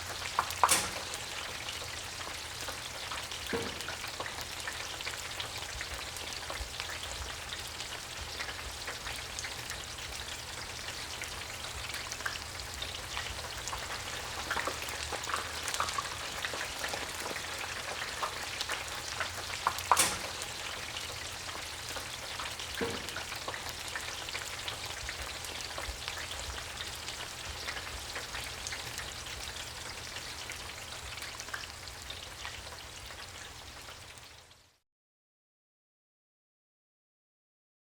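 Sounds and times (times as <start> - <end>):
fries crackling and bubbling in oil: 0.0 - 34.8.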